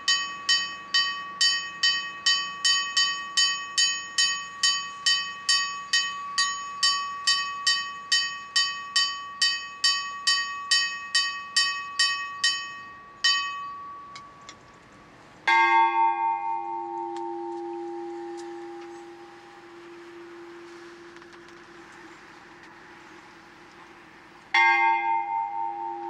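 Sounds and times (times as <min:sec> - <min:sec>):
deep bell stroke ringing: 0:00.0 - 0:14.4, 0:15.5 - 0:21.9, 0:24.5 - 0:26.0.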